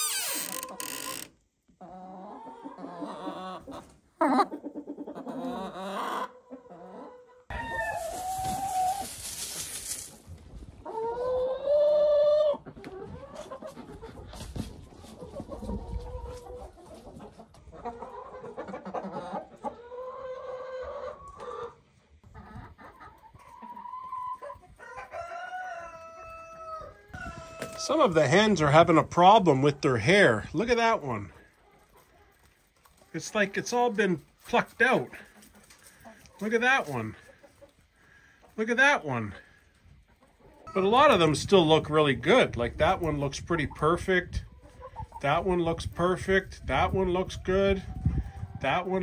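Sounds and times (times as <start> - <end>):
hens clucking and squawking: 0.0 - 49.0.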